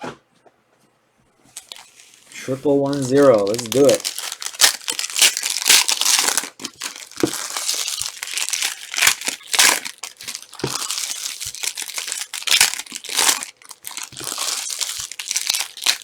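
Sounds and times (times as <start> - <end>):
card pack wrappers crinkling: 1.5 - 16.0.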